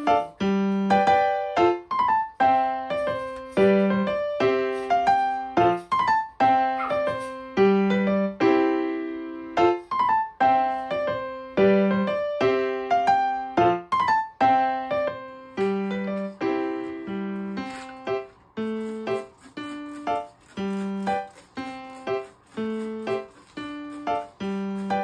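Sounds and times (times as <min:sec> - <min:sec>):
light piano melody: 0:00.0 - 0:25.0.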